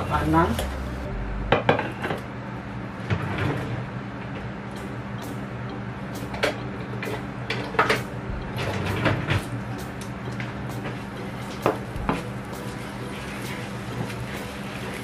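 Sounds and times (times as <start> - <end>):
low hum: 0.0 - 14.7.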